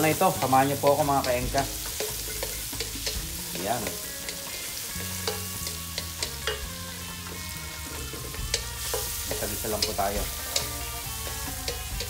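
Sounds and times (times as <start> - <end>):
garlic sizzling in hot oil: 0.0 - 12.0
wooden spatula scraping a wok: 0.0 - 12.0.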